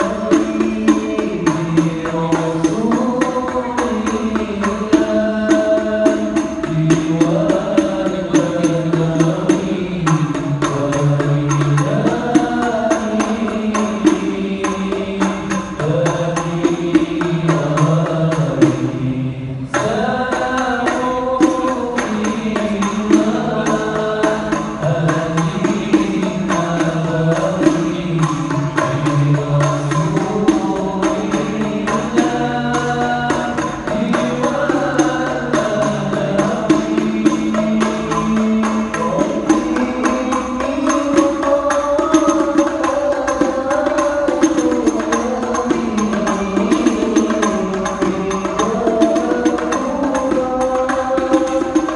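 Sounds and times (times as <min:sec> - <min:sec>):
frame drums beating: 0:00.0 - 0:51.9.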